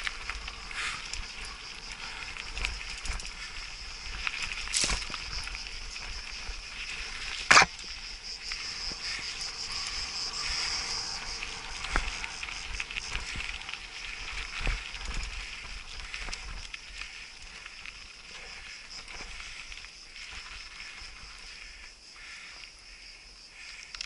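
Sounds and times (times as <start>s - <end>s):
bike tires crunching on gravel: 0.0s - 24.0s
insects chirring: 0.0s - 24.0s.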